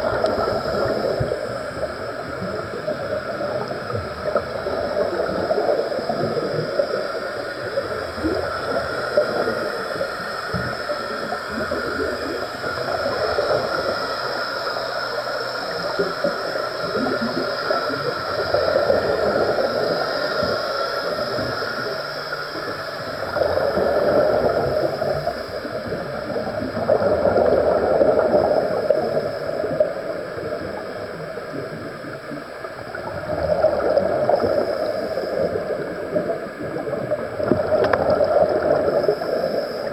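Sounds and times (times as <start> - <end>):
faint constant whine: 0.0 - 39.9
regulator bubbles gurgling underwater: 0.0 - 39.9
underwater hiss: 0.0 - 39.9.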